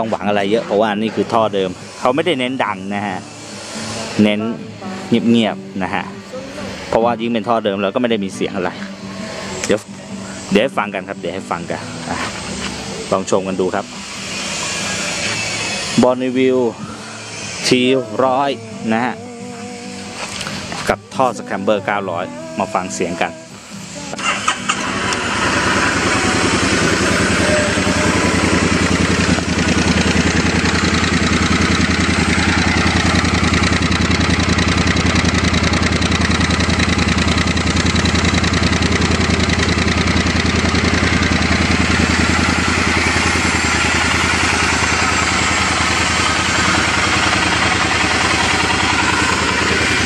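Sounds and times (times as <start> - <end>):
motorcycle engine idling: 0.0 - 16.0, 16.6 - 50.0.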